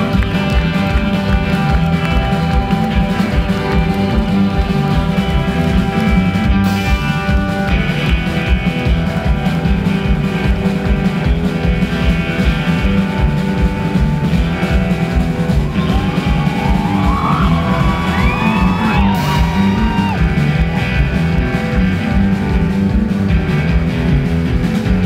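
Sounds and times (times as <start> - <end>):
guitar: 0.0 - 25.0
live band playing country-rock: 0.0 - 25.0.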